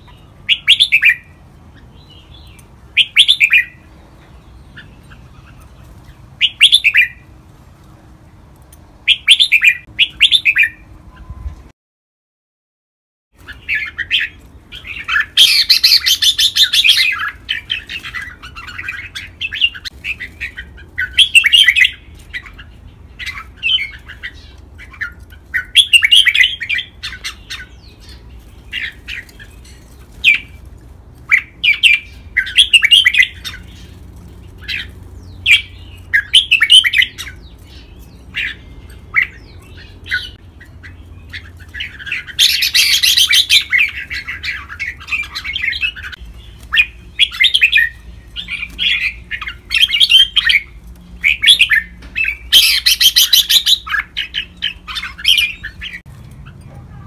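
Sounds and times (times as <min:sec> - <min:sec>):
bird chattering song: 0:00.0 - 0:07.3, 0:09.0 - 0:11.4, 0:13.4 - 0:30.6, 0:31.3 - 0:57.0.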